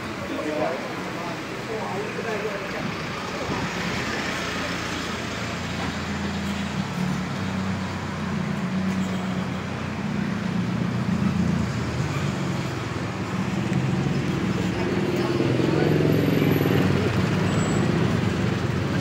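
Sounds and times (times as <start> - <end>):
cars driving slowly past: 0.0 - 19.0.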